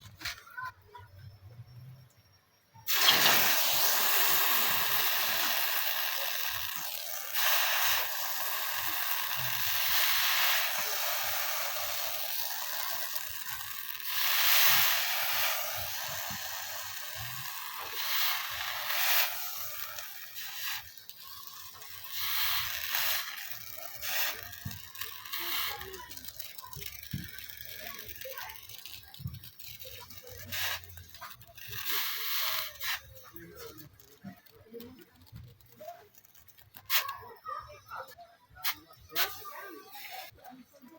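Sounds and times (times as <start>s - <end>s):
hot blade quenching sizzle: 2.9s - 38.0s, 38.6s - 40.3s.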